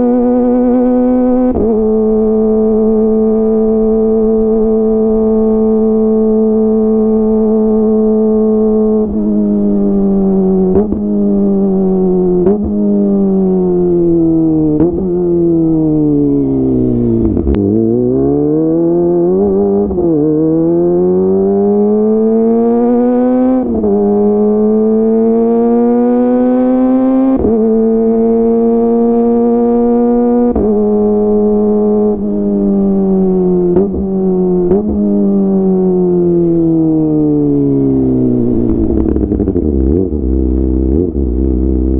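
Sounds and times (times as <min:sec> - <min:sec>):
motorcycle engine shifting gears: 0:00.0 - 0:41.9.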